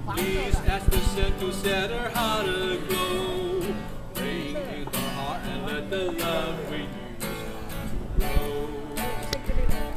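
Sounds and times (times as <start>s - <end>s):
acoustic guitar strumming: 0.0s - 9.9s
man singing: 0.0s - 9.9s.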